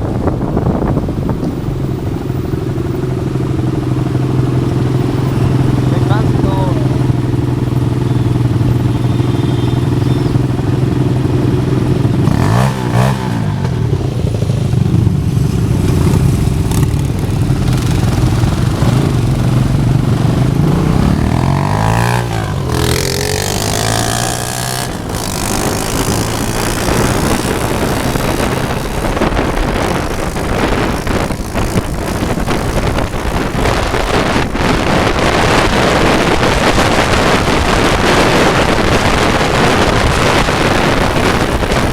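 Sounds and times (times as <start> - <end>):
motorcycle engines running: 0.0 - 41.9
steady rushing noise: 0.0 - 41.9.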